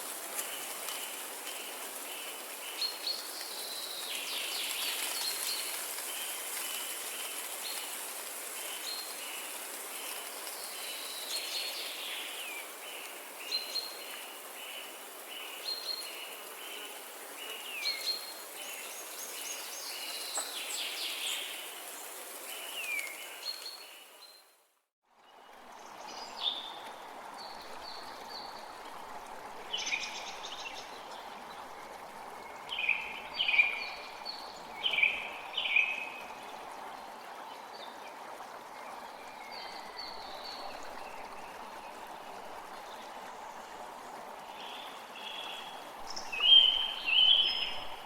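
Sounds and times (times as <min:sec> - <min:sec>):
running water: 0:00.0 - 0:24.4, 0:25.3 - 0:48.0.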